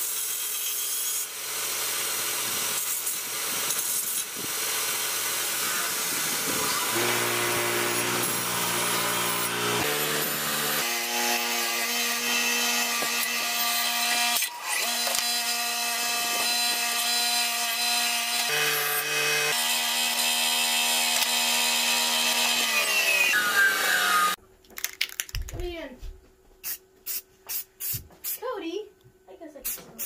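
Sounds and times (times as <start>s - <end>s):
bench grinder grinding metal: 0.0s - 24.4s.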